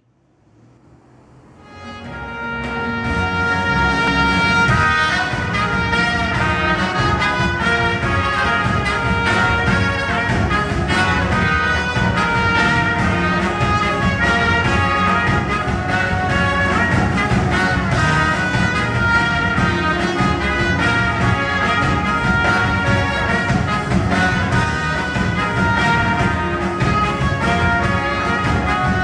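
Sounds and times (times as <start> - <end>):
band accompaniment: 1.5 - 29.0
trumpet melody: 1.5 - 29.0.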